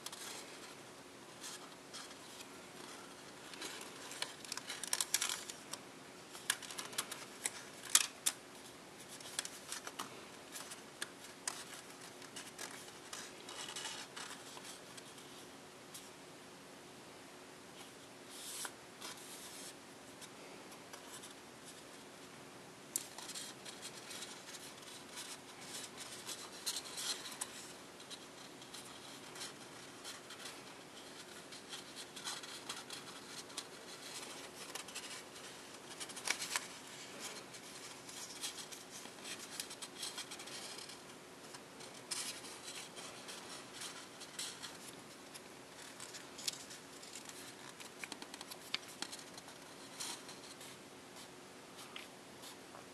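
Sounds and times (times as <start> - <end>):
paper crinkling: 1.4 - 16.0, 23.0 - 52.6.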